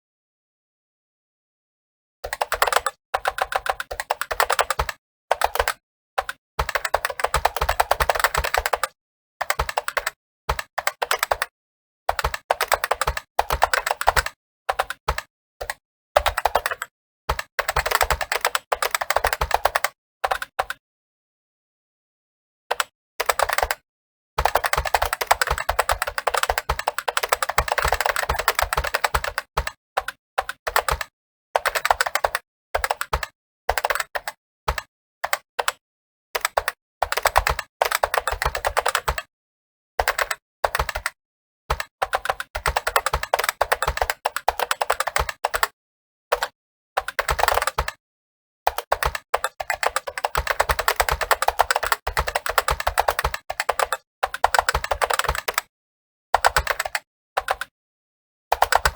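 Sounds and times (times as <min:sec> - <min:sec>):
fast keyboard typing: 0:02.2 - 0:11.5, 0:12.1 - 0:20.8, 0:22.7 - 0:23.8, 0:24.4 - 0:35.8, 0:36.4 - 0:39.3, 0:40.0 - 0:48.0, 0:48.7 - 0:55.7, 0:56.4 - 0:57.8, 0:58.5 - 0:58.9.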